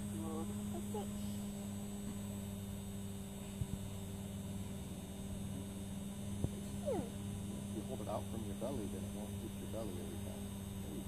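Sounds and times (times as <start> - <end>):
low electric hum: 0.0 - 11.0.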